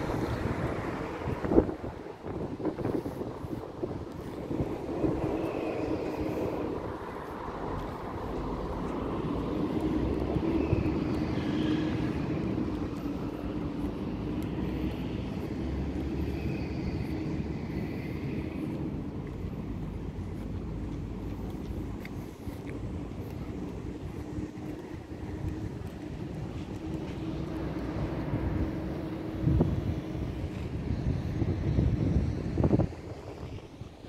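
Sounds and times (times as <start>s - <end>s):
engine drone with low rumble: 0.0s - 34.0s.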